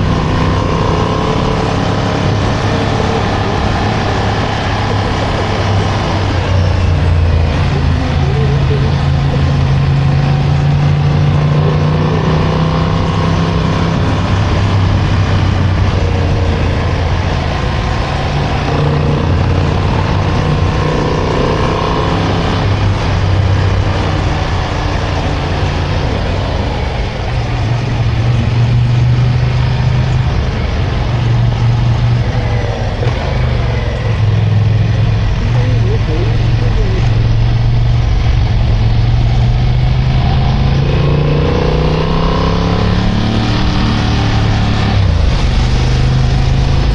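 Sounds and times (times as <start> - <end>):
motorcycle engine running: 0.0 - 46.9
wind noise: 0.0 - 46.9.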